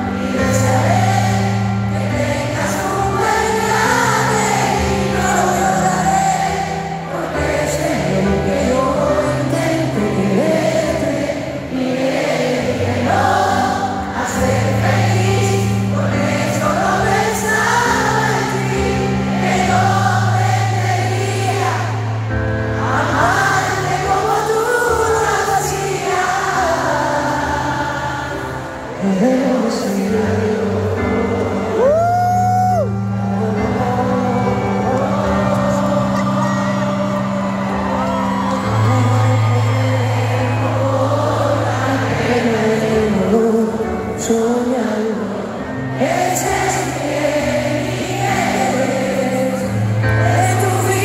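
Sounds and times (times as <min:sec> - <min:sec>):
crowd singing along: 0:00.0 - 0:51.0
piano ballad: 0:00.0 - 0:51.0.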